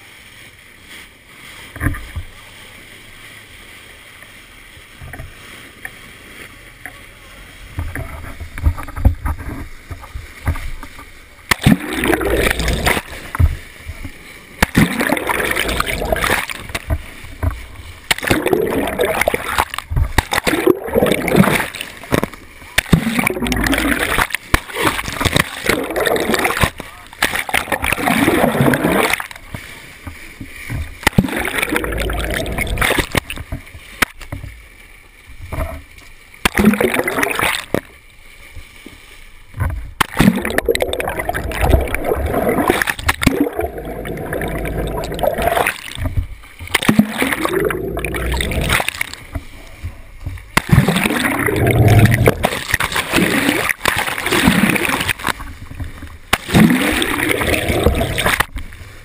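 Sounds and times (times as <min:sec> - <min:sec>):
water rushing and splashing: 0:00.0 - 0:59.0.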